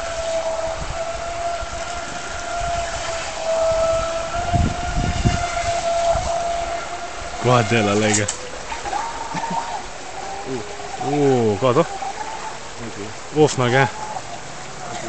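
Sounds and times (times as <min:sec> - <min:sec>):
boat motor high-pitched whine: 0:00.0 - 0:15.0
low rumbles: 0:00.0 - 0:15.0.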